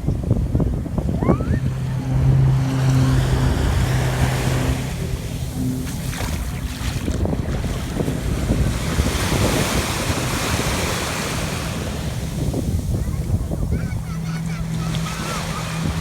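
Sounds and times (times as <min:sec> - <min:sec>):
steady low hum: 0:00.0 - 0:16.0
wind buffeting microphone: 0:00.0 - 0:16.0
sea surf washing on beach: 0:00.9 - 0:16.0.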